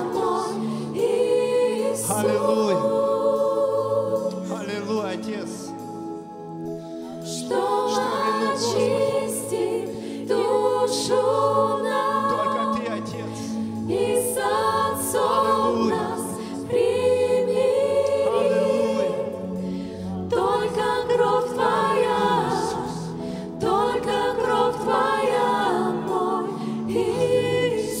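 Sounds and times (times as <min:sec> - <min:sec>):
choir singing worship song: 0:00.0 - 0:28.0.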